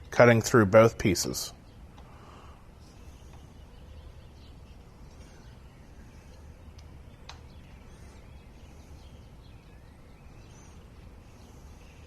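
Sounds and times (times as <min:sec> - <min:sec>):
faint high bird chirps: 0:01.5 - 0:12.0
low hum: 0:01.5 - 0:12.0.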